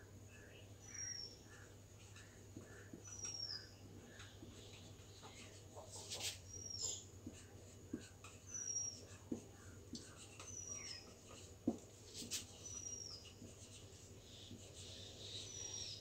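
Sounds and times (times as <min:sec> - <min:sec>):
marker squeaking on whiteboard: 0:01.5 - 0:16.0.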